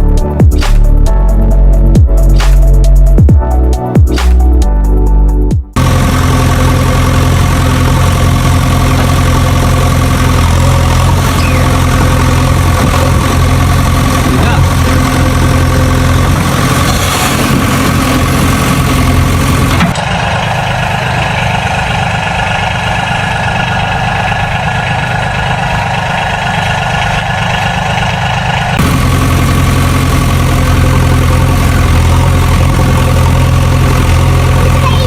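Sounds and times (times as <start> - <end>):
engine idling: 0.0 - 35.0
higher-pitched engine running: 5.8 - 35.0.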